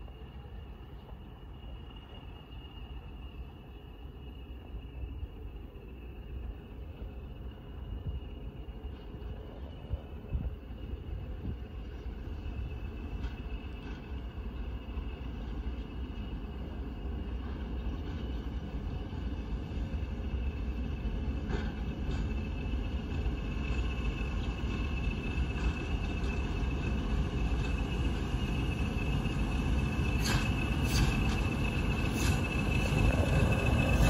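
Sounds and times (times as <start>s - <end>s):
diesel locomotive rumbling: 0.0s - 34.0s.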